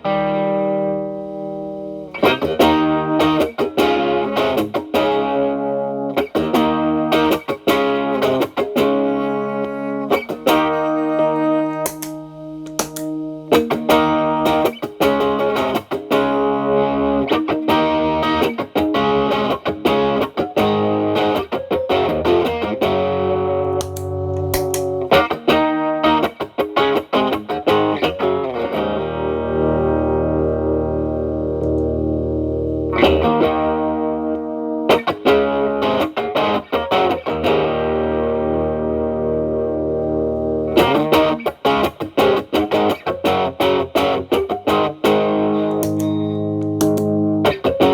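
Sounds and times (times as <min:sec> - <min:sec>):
overdriven electric guitar: 0:00.0 - 0:47.9.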